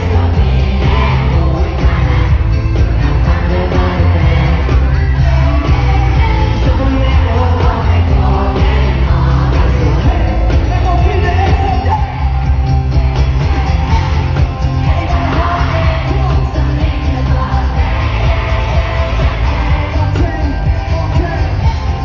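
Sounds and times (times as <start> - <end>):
person singing: 0.0 - 22.0
pop band with heavy bass: 0.0 - 22.0.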